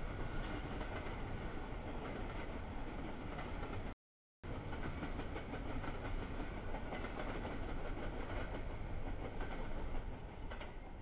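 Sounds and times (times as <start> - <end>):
freight train rumbling past: 0.0 - 11.0
wheels clicking over rail joints: 0.2 - 11.0.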